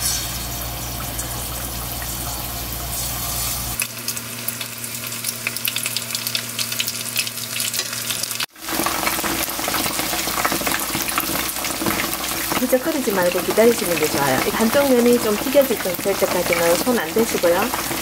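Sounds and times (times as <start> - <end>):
food deep-frying in hot oil: 0.0 - 18.0.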